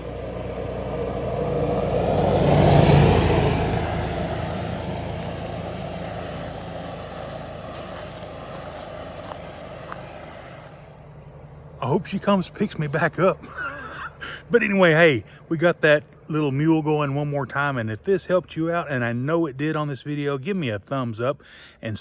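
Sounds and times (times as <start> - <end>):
utility vehicle engine driving away: 0.0 - 20.3.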